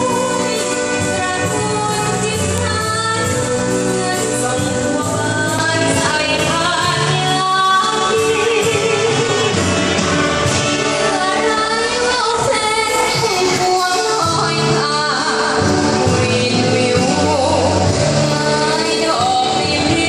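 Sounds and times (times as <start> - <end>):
live band with brass and keyboard: 0.0 - 20.0
woman singing: 0.0 - 20.0.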